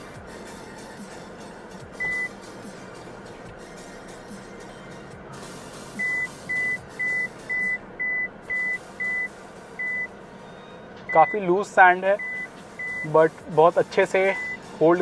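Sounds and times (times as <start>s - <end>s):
low vehicle noise: 0.0s - 15.0s
in-car warning beeps: 1.8s - 2.4s, 3.3s - 14.9s.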